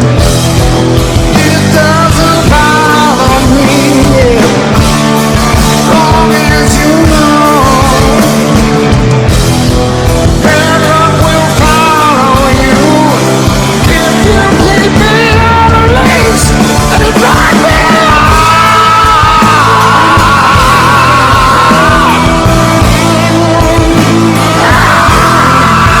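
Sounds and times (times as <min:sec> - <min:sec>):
man singing rock song: 0:00.0 - 0:26.0
rock band playing: 0:00.0 - 0:26.0.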